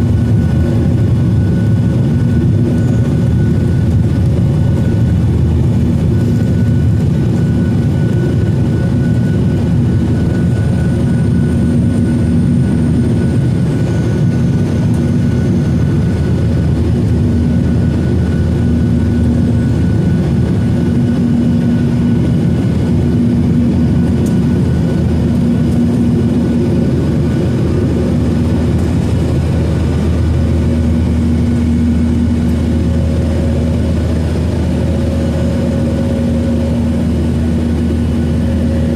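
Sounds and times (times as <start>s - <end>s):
constant low hum: 0.0s - 38.9s
jet engine cabin rumble: 0.0s - 38.9s.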